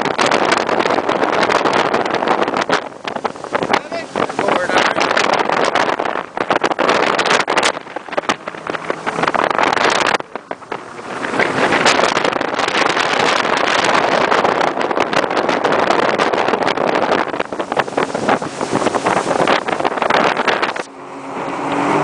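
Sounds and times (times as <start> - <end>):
water rushing from motorboat: 0.0 - 22.0
wind buffeting microphone: 0.0 - 22.0.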